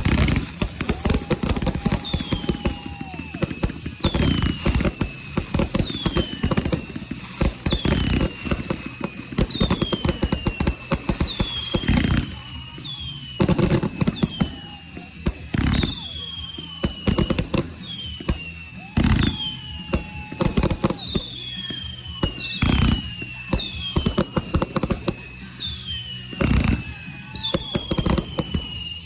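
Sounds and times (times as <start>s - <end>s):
fireworks crackling and banging: 0.0s - 29.0s
fireworks falling whistles: 0.0s - 29.0s.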